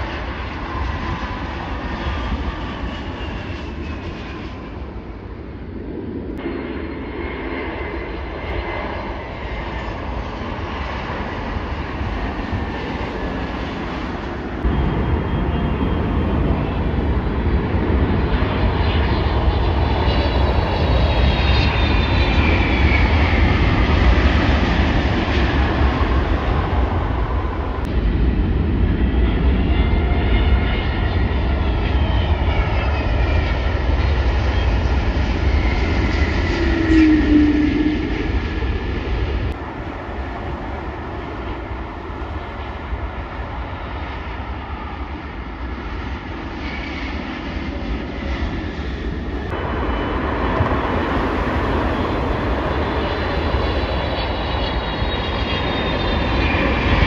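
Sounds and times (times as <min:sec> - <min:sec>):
jet airliners landing: 0:00.0 - 0:57.0.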